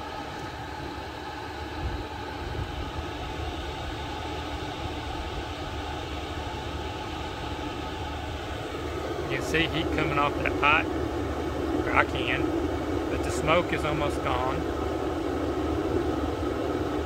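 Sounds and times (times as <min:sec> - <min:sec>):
air heater blower rushing: 0:00.0 - 0:17.0.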